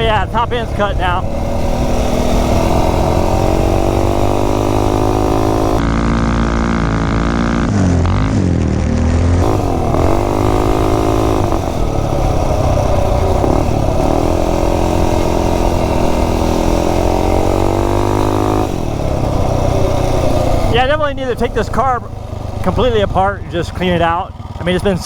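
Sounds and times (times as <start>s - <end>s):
minibike engine revving high: 0.0s - 25.0s.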